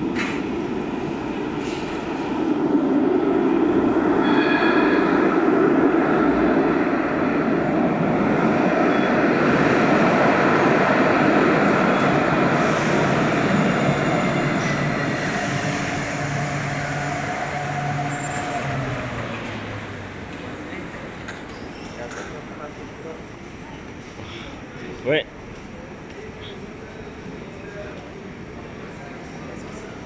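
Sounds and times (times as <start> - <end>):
tram rolling rumble: 0.0 - 30.0.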